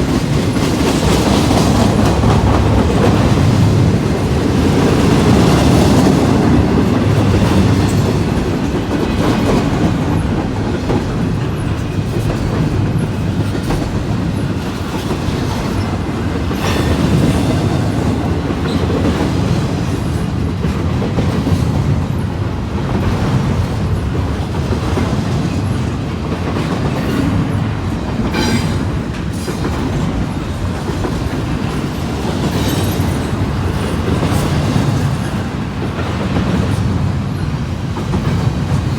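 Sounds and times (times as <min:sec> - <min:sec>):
train wheels clacking on rails: 0:00.0 - 0:38.9.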